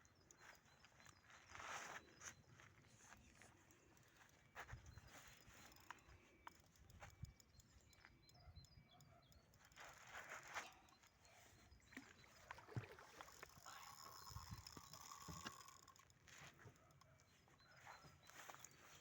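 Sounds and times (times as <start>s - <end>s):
faint clicks and knocks: 2.3s - 19.0s.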